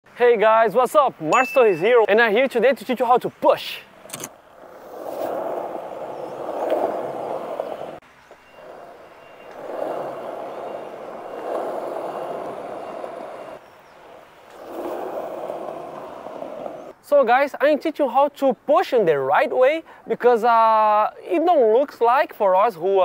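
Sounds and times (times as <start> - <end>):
skateboard wheels rolling on concrete: 0.2 - 23.0.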